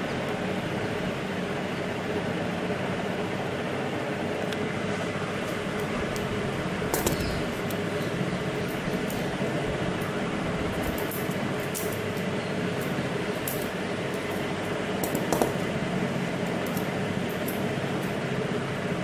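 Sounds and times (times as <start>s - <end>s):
background hum and hiss: 0.0s - 19.0s.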